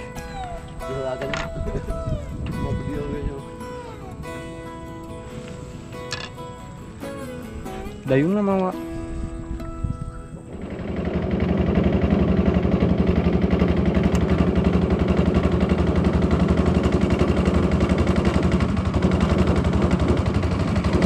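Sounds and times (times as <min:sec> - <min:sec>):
small boat engine running: 0:00.0 - 0:08.4, 0:09.0 - 0:21.0.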